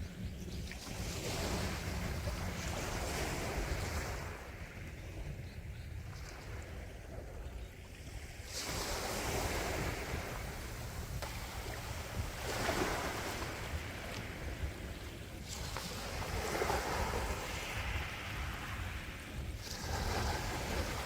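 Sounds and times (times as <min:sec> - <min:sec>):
sea waves breaking on shore: 0:00.0 - 0:05.4, 0:06.0 - 0:21.0
wind rumble on microphone: 0:00.0 - 0:21.0.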